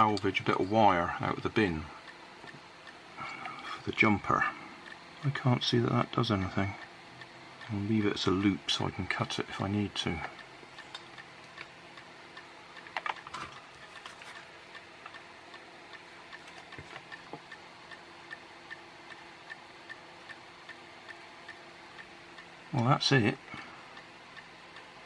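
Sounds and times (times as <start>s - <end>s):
faint ticking: 0.0s - 25.0s.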